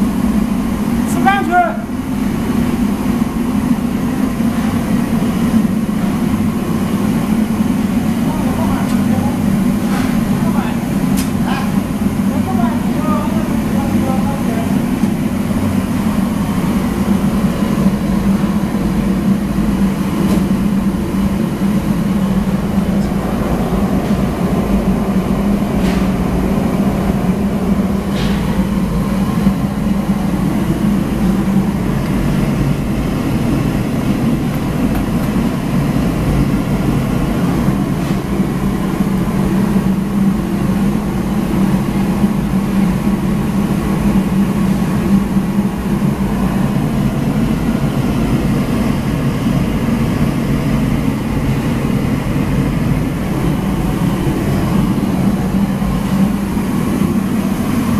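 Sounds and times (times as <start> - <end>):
kitchen machinery roaring: 0.0 - 57.9.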